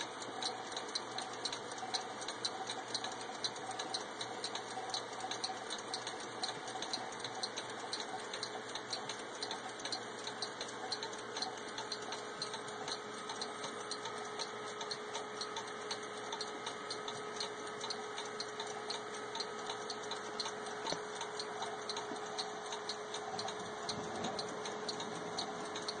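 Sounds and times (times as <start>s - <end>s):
mechanical clocks ticking: 0.0s - 26.0s.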